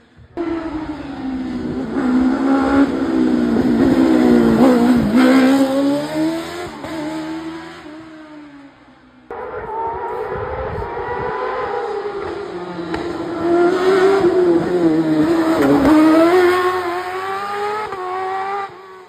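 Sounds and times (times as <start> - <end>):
racing car engine passing: 0.4 - 19.0.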